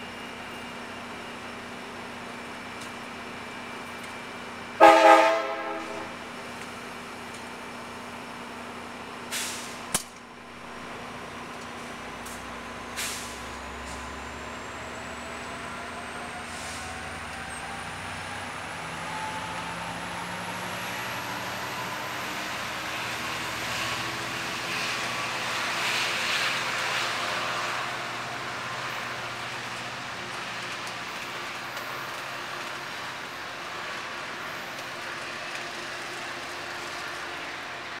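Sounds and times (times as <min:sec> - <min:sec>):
passenger train whine: 0:00.0 - 0:38.0.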